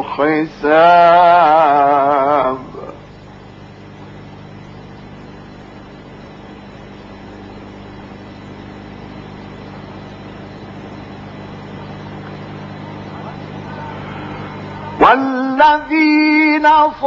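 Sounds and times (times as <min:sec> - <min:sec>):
low hum: 0:00.0 - 0:17.0
recording hiss: 0:00.0 - 0:17.0.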